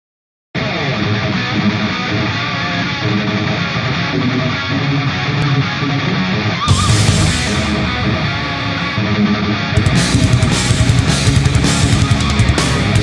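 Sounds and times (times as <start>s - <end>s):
guitar-led music: 0.6s - 13.0s.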